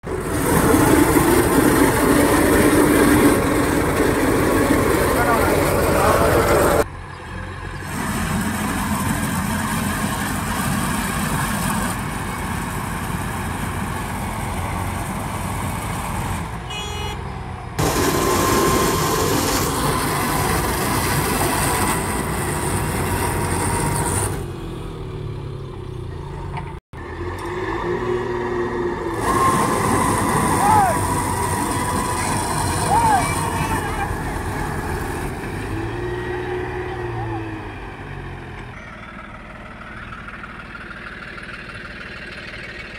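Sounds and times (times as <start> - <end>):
heavy diesel engine rumble: 0.0 - 42.9.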